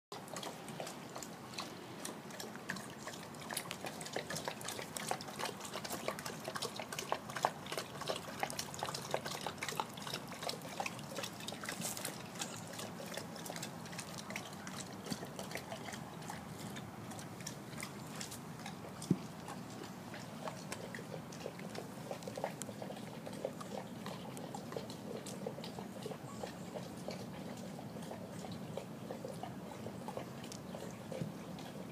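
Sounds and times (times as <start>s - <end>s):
dog lapping water from bowl: 0.1s - 31.9s.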